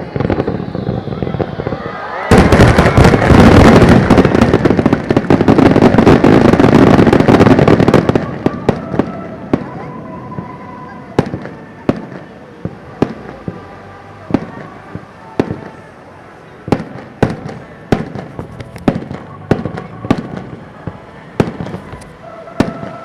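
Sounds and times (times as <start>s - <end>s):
fireworks bursting in sharp bangs: 0.0s - 23.0s
noisy microphone haze: 0.0s - 23.0s.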